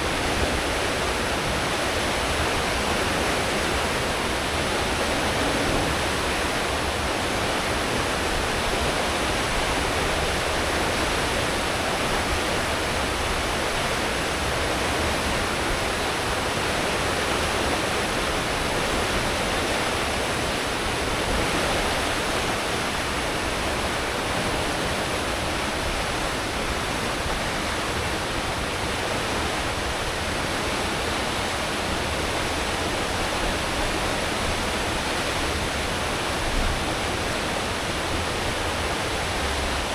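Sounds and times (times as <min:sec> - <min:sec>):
water rushing in ship wake: 0:00.0 - 0:39.9.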